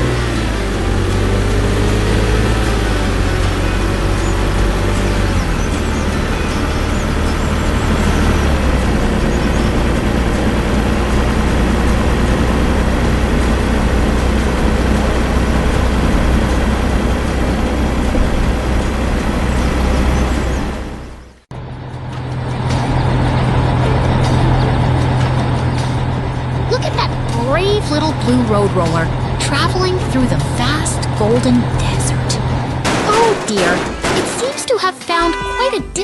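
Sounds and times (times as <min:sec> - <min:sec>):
heavy vehicle engines running: 0:00.0 - 0:36.0
steady engine hum: 0:00.0 - 0:36.0.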